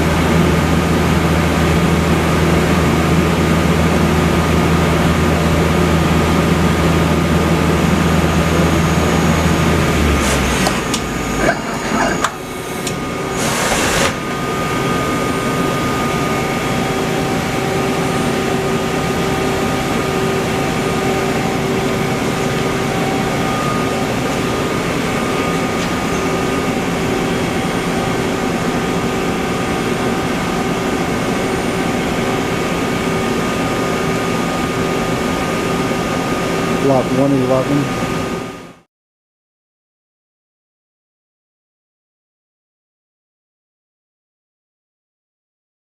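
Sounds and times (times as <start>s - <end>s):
machine humming with whine: 0.0s - 38.8s.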